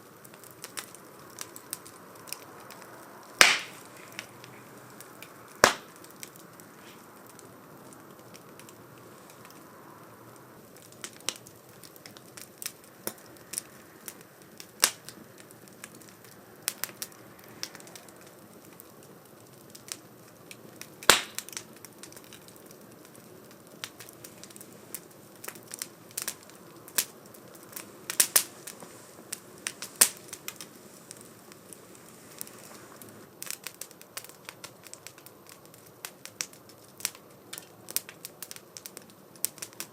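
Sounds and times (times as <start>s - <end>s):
firewood crackling and popping: 0.0s - 39.9s
soft steady fire hiss: 0.0s - 39.9s.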